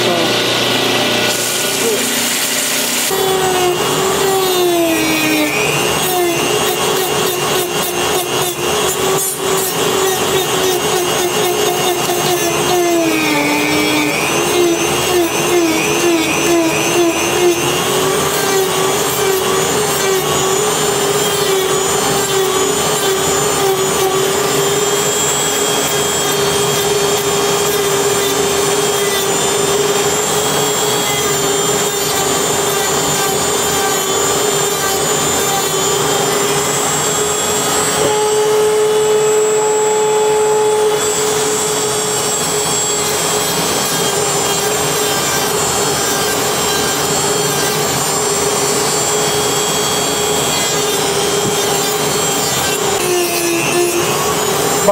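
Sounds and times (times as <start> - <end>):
belt grinder motor hum: 0.0 - 54.9.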